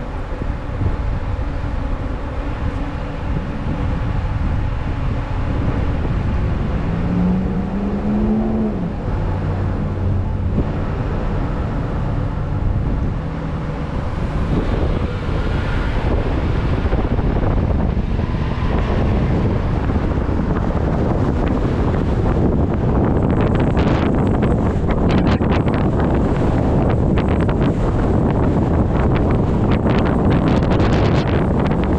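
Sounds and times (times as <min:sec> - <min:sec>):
engine accelerating: 0:00.0 - 0:31.9
vehicle engines running: 0:00.0 - 0:31.9
wind on microphone: 0:00.0 - 0:31.9.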